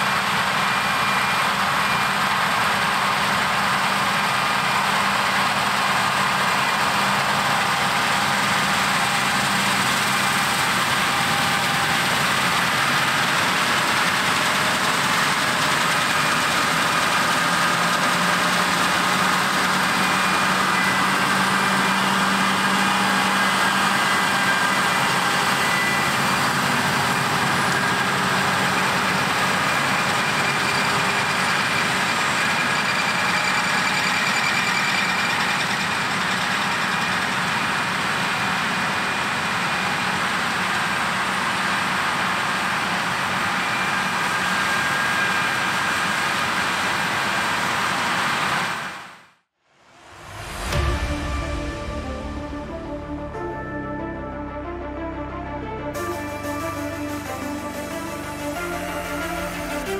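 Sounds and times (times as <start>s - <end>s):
combine harvester droning: 0.0s - 48.9s, 49.9s - 59.9s.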